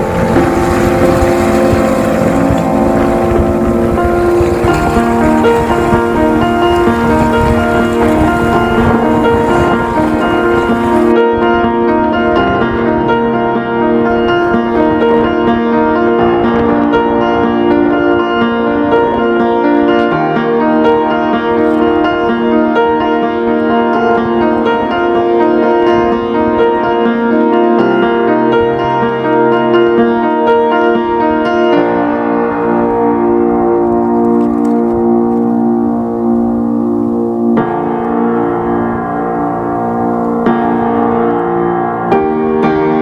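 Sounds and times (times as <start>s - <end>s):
piano-like keyboard chords: 0.0s - 43.0s.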